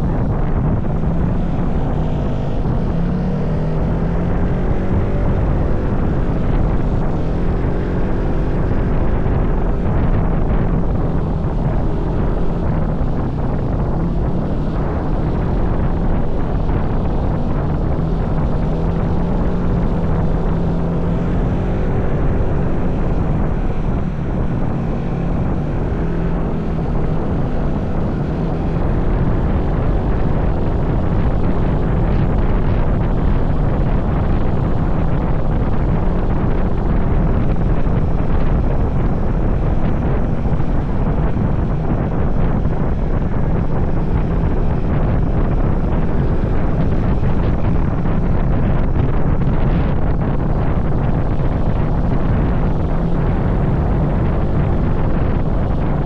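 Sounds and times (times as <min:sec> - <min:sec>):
vehicle engine running: 0:00.0 - 0:56.0
wind rushing over microphone: 0:00.0 - 0:56.0.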